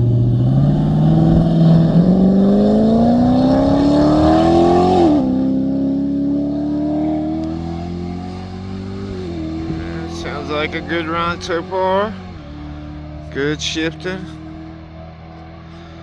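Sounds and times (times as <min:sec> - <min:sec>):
racing engine accelerating: 0:00.0 - 0:16.0.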